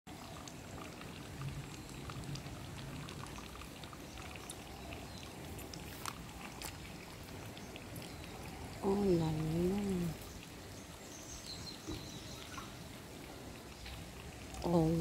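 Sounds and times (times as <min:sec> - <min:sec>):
small splashes: 0:00.1 - 0:15.0
water trickling in a canal: 0:00.1 - 0:15.0.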